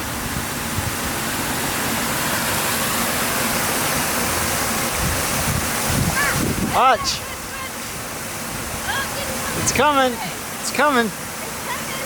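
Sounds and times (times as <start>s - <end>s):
fountain water rushing and splashing: 0.0s - 12.0s.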